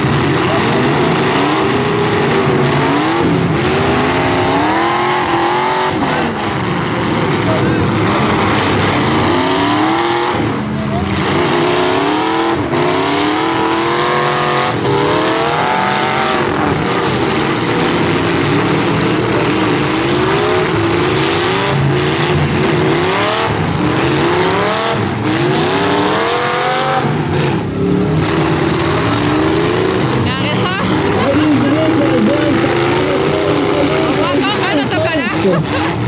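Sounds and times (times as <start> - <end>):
engines revving hard: 0.0 - 36.0.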